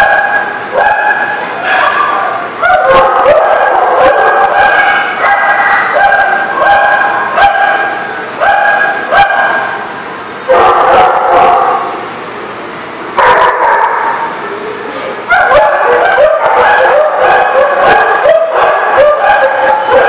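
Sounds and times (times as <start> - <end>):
dogs barking: 0.0 - 9.9, 10.5 - 12.0, 13.2 - 14.4, 15.3 - 20.0.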